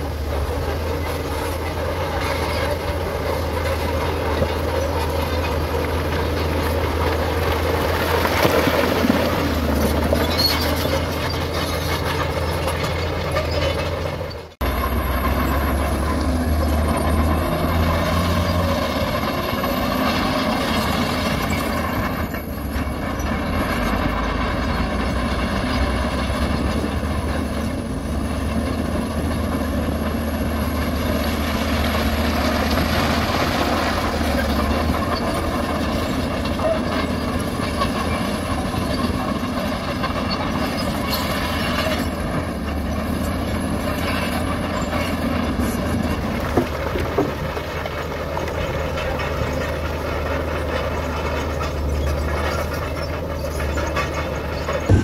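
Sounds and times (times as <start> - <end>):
bulldozer engine rumbling: 0.0 - 55.0.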